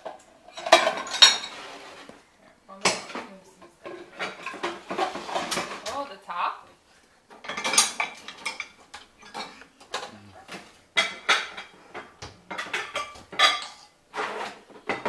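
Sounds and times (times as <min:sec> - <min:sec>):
dishes and cutlery clinking: 0:00.0 - 0:02.1, 0:02.8 - 0:06.0, 0:07.3 - 0:15.0.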